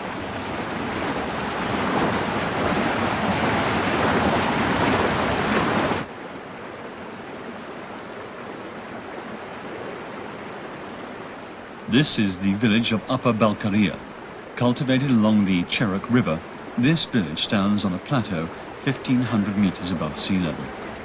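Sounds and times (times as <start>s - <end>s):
stream rushing over boulders: 0.0s - 21.0s.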